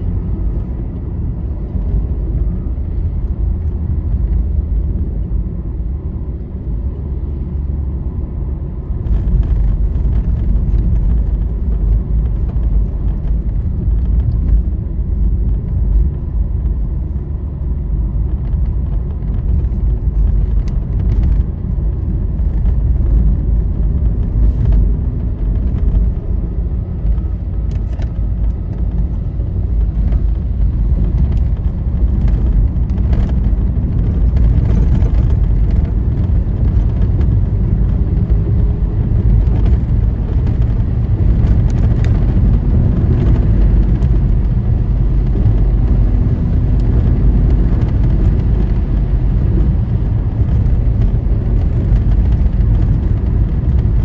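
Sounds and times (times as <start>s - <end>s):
vehicle road noise from inside: 0.0s - 54.0s.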